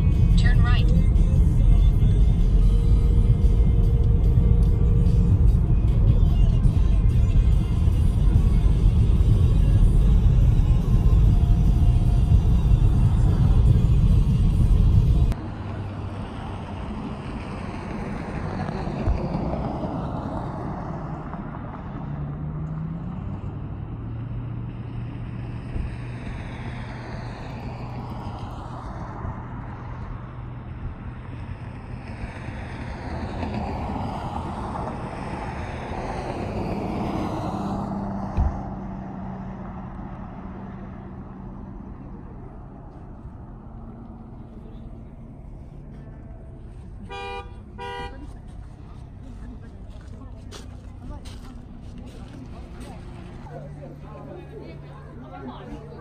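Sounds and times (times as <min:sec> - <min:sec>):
cars passing with a whoosh: 0:00.0 - 0:56.0
road rumble inside car: 0:00.0 - 0:56.0.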